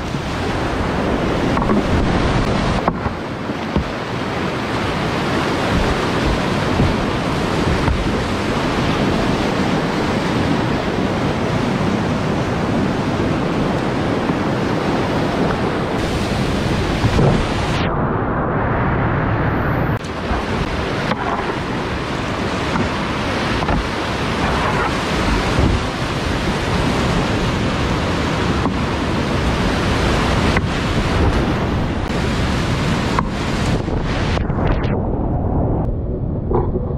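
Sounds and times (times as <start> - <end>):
whitewater rapids rushing: 0.0 - 17.8, 20.0 - 34.5.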